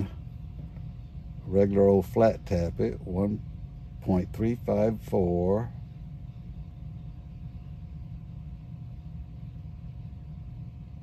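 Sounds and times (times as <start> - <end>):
faint steady hum: 0.0 - 11.0
low background rumble: 0.0 - 11.0.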